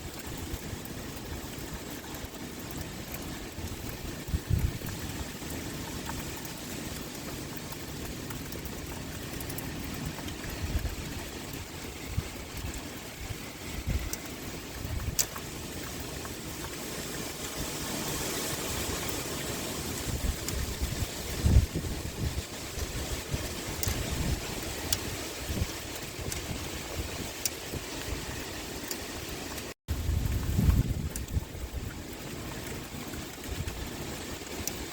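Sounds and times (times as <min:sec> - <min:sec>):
rain pouring: 0:00.0 - 0:34.9
wind: 0:00.0 - 0:34.9.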